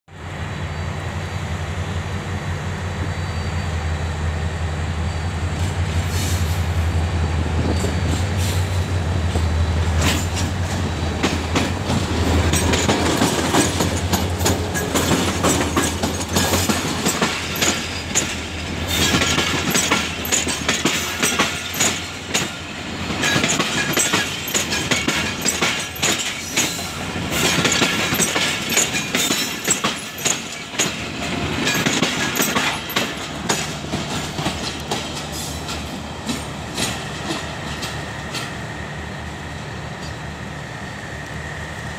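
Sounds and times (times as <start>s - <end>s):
locomotive engine hum: 0.2s - 41.9s
train wheels clickety-clack: 5.5s - 40.4s.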